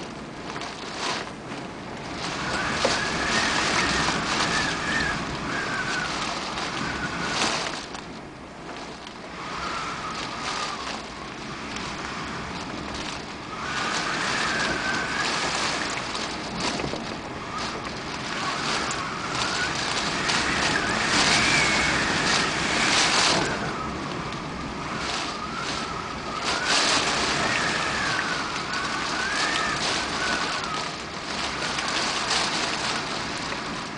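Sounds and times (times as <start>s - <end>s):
faint wavering wind whistle: 0.0s - 33.9s
strong gusting wind: 0.0s - 33.9s.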